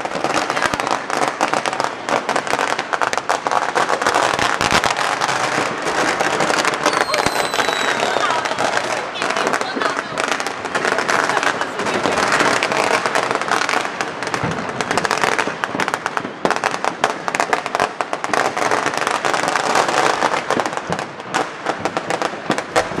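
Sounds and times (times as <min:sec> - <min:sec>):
firecrackers crackling: 0:00.0 - 0:23.0
loud firework bangs: 0:00.0 - 0:23.0.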